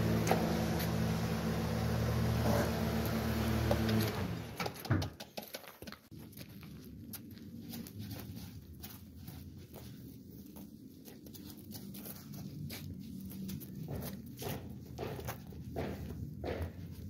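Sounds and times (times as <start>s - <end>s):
footsteps on dirt: 0.0s - 1.6s, 2.7s - 17.0s.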